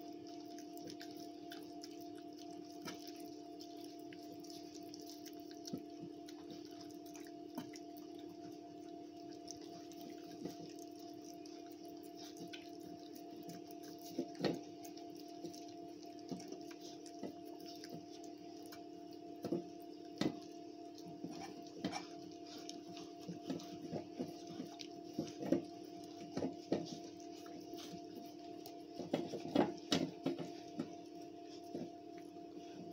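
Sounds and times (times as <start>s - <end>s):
puppies licking metal bowl: 0.0s - 32.9s.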